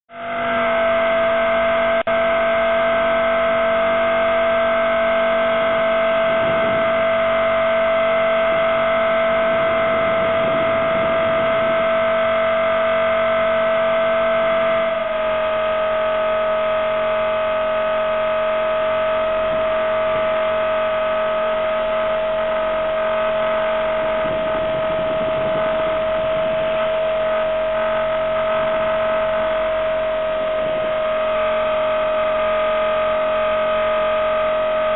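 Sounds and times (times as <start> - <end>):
electric helicopter rotor whine: 0.1 - 34.9.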